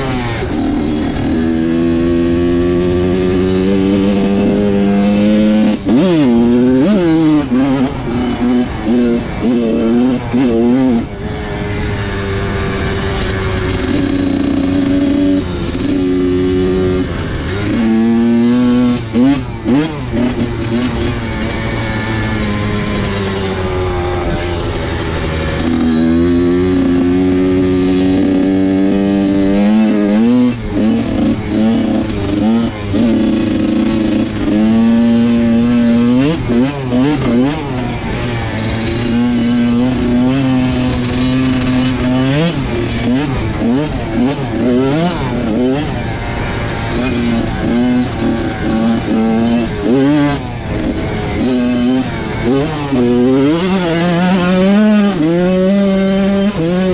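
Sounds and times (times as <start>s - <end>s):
dirt bike engine buzzing: 0.0s - 56.9s.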